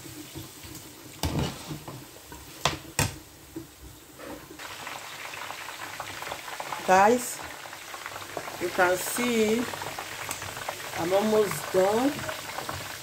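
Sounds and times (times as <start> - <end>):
meat deep-frying in hot oil: 0.0 - 13.0.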